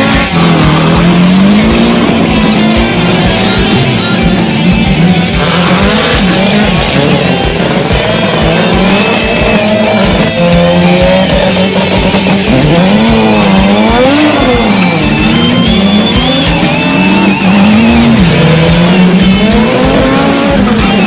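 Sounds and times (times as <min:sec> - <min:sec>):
background music: 0:00.0 - 0:21.0
race car engines revving: 0:00.0 - 0:21.0.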